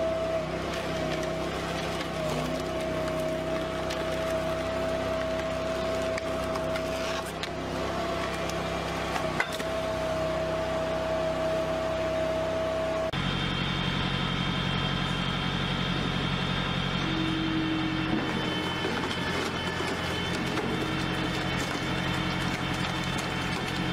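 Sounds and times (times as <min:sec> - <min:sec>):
log splitter engine running: 0:00.0 - 0:23.9
tractor engine driving wood splitter: 0:00.0 - 0:23.9.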